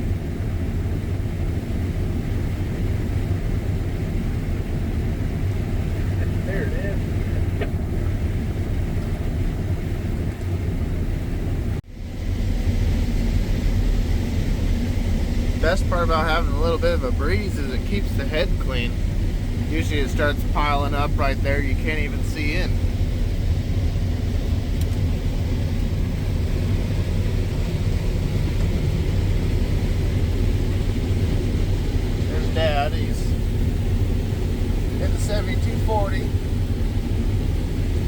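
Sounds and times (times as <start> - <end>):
combine harvester rumble: 0.0 - 38.0.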